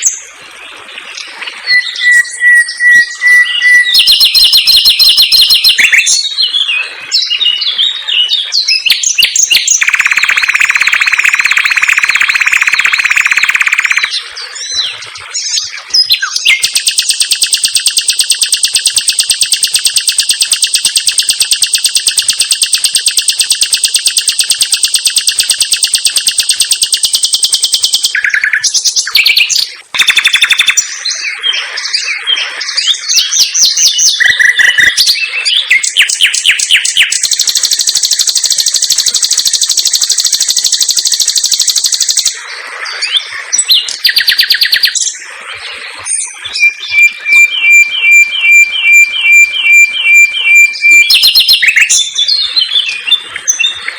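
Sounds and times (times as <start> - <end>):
nightingale singing trills: 1.1 - 53.9.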